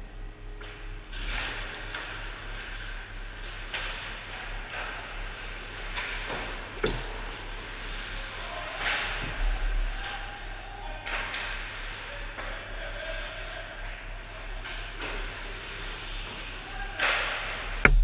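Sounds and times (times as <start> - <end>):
low electrical hum: 0.0 - 18.0
sticks and puck clacking: 1.3 - 13.5, 14.6 - 18.0.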